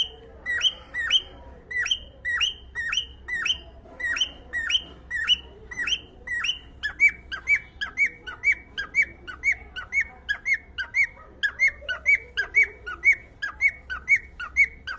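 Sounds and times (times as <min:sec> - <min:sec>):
cockatiel whistling: 0:00.0 - 0:14.9.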